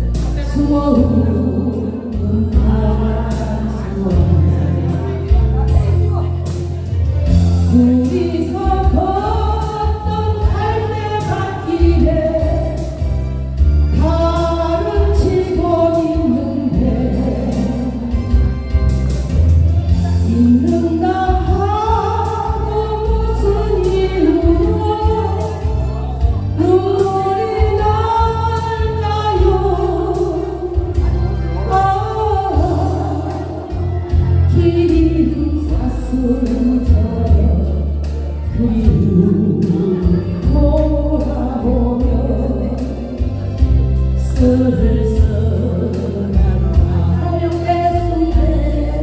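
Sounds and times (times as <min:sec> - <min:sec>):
backing track with steady beat: 0:00.0 - 0:49.0
woman singing a ballad: 0:00.0 - 0:49.0.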